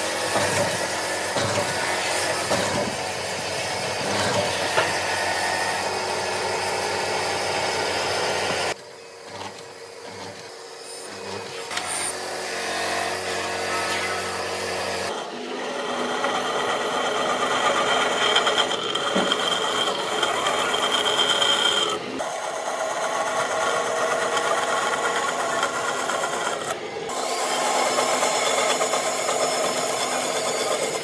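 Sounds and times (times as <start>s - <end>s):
power tool running on wood: 0.0s - 31.0s.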